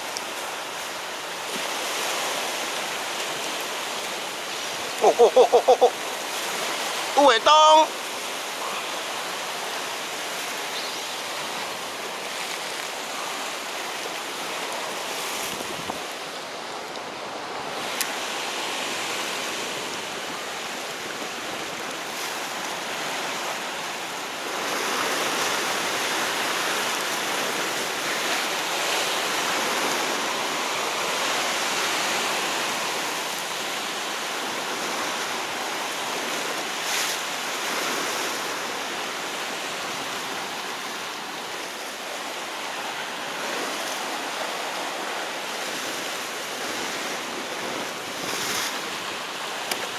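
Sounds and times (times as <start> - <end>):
surf washing on rocks: 0.0 - 49.9.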